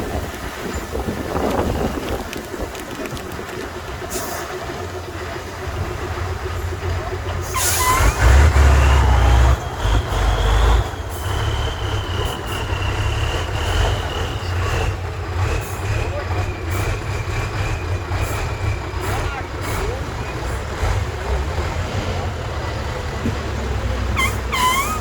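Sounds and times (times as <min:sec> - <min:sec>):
diesel truck engine under load: 0:00.0 - 0:25.0.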